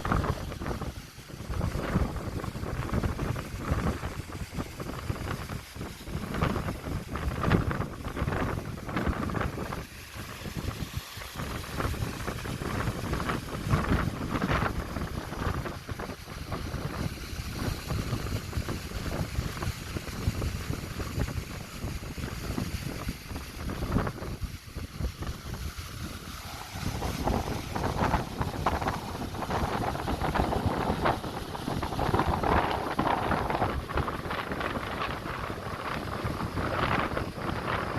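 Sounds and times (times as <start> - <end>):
rough sea water rushing: 0.0 - 37.9
wind gusting on microphone: 0.0 - 37.9.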